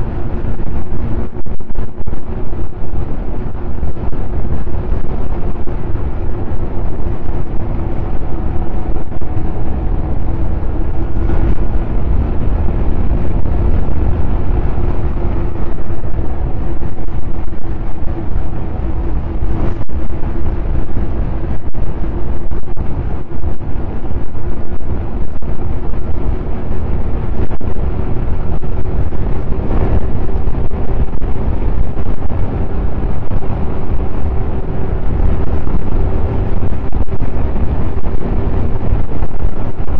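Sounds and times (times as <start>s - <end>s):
snowmobile engine running: 0.0s - 39.9s
wind noise on microphone: 0.0s - 39.9s.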